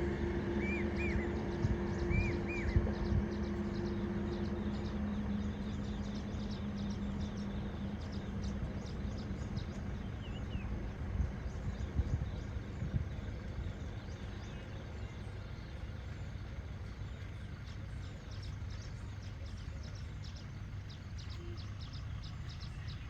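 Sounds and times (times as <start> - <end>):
low engine hum: 0.0 - 23.0
road traffic rumble: 0.0 - 23.0
small birds chirping: 0.0 - 23.0.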